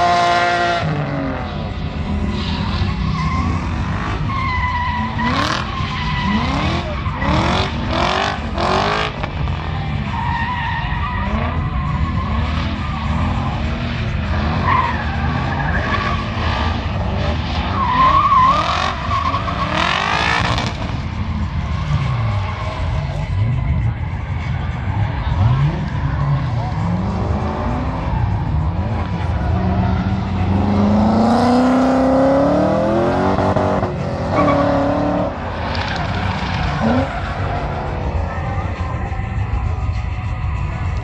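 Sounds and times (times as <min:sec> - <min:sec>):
car engines revving: 0:00.0 - 0:41.0
tyres squealing and skidding: 0:00.0 - 0:41.0.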